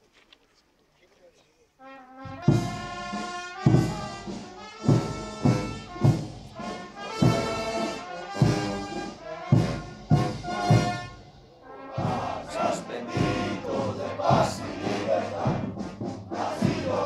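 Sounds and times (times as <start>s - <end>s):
brass band playing: 1.8s - 17.0s
bass drum beat: 2.3s - 11.4s, 12.0s - 17.0s.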